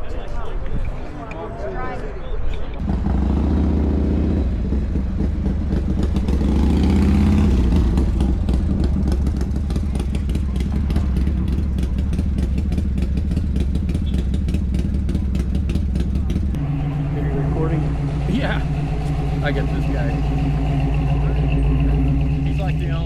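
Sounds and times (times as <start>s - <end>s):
vehicle engine idling: 2.8s - 23.0s.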